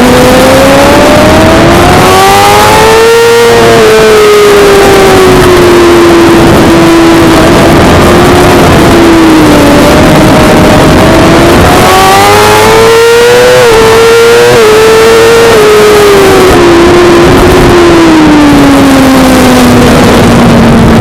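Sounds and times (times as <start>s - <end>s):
motorcycle engine at high revs: 0.0s - 21.0s
wind rush: 0.0s - 21.0s.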